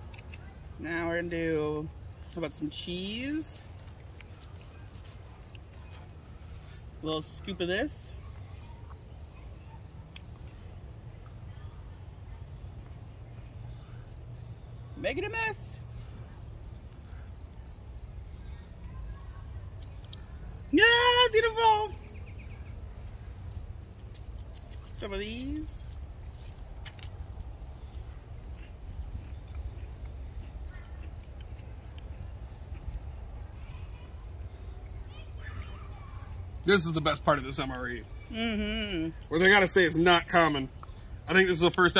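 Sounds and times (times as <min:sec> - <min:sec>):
crickets chirping: 0:00.0 - 0:41.9
low background hum: 0:00.0 - 0:41.9.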